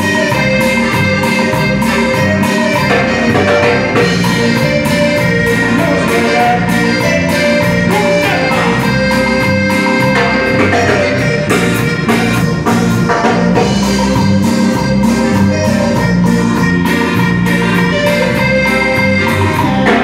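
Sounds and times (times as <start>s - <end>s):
bass guitar: 0.0s - 20.0s
congas: 0.0s - 20.0s
live band dance music: 0.0s - 20.0s.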